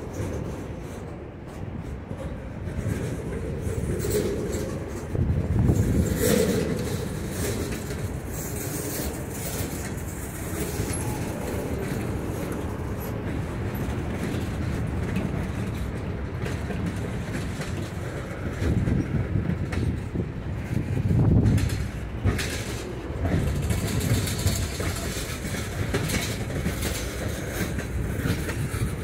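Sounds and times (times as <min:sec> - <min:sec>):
freight car wheels rumbling on rails: 0:00.0 - 0:29.0.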